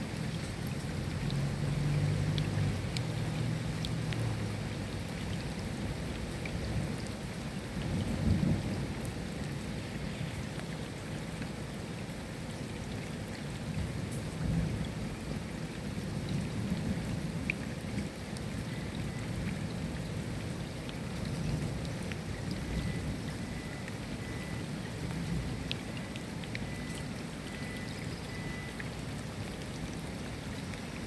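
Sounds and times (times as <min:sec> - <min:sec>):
raindrops ticking: 0:00.0 - 0:31.0
steady rain falling: 0:00.0 - 0:31.0.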